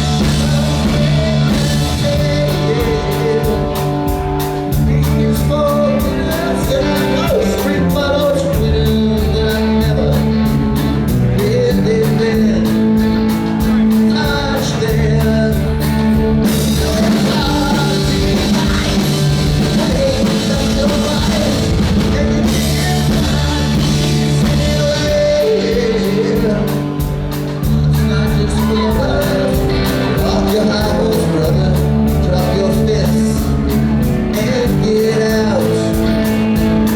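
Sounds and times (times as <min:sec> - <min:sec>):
bass guitar: 0:00.0 - 0:36.9
drum kit: 0:00.0 - 0:36.9
electric guitars: 0:00.0 - 0:36.9
lead vocal singing: 0:00.0 - 0:36.9.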